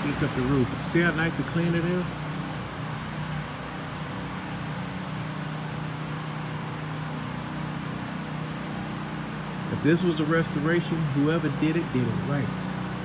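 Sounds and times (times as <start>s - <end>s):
air conditioning hum and hiss: 0.0s - 13.0s.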